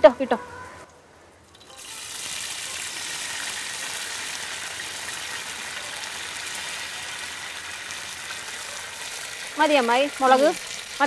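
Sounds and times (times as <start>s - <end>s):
chillies frying in hot oil: 1.4s - 11.0s.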